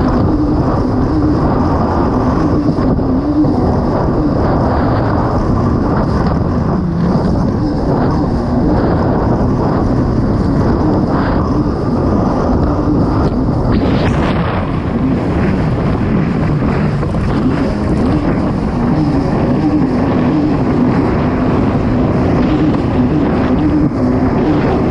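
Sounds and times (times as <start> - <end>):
jet ski engine running hard: 0.0 - 24.9
wind noise on microphone: 0.0 - 24.9.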